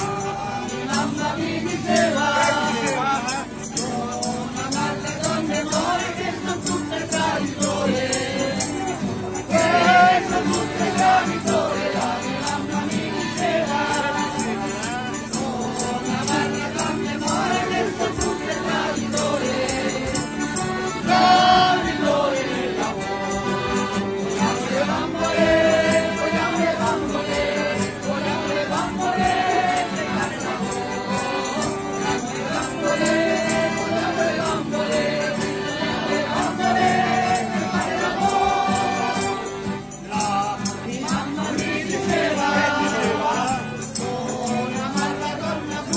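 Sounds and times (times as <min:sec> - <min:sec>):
accordion: 0:00.0 - 0:45.9
choir singing: 0:00.0 - 0:45.9
strummed guitars: 0:00.0 - 0:45.9
tambourine shaken: 0:00.0 - 0:45.9.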